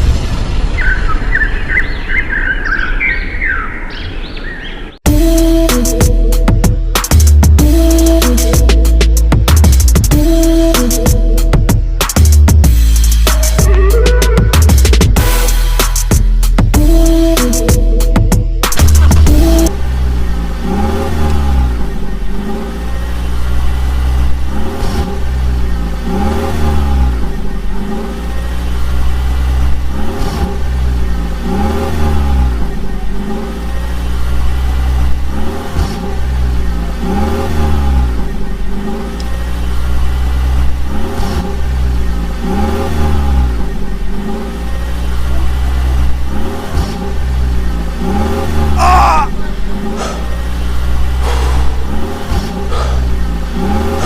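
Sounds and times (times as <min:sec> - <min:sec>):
engine revving: 0:05.1 - 0:54.0.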